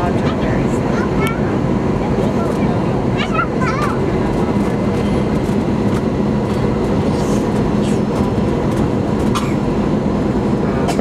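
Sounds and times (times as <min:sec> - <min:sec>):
airflow rushing over fuselage: 0:00.0 - 0:11.0
airplane engine drone: 0:00.0 - 0:11.0
steady low hum: 0:00.0 - 0:11.0.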